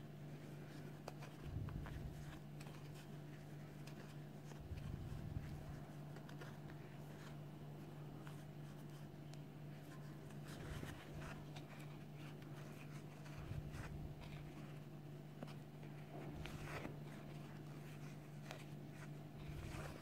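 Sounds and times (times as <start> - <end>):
crochet hook and yarn rustling: 0.2 - 9.1, 9.7 - 20.0.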